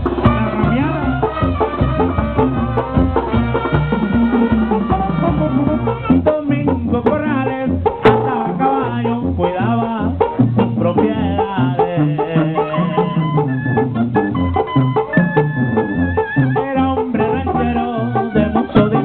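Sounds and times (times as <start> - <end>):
bass drum beating: 0.0 - 19.0
brass band playing live: 0.0 - 19.0.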